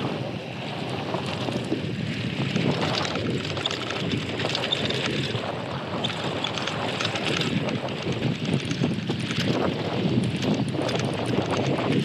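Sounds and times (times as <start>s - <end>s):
bike rattling: 0.0s - 12.0s
bike tyre noise on road: 0.0s - 12.0s
wind buffeting microphone: 0.0s - 12.0s.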